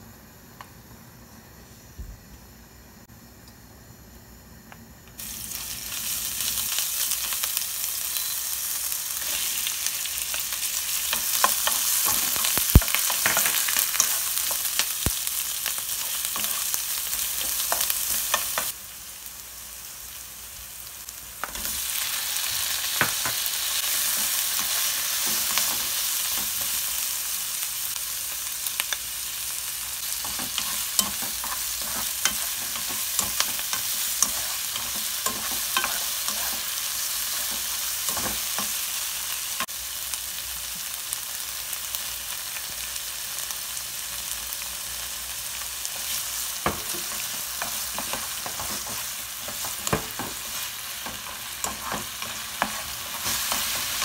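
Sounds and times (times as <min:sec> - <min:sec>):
food sizzling in hot oil: 0:05.2 - 0:54.0.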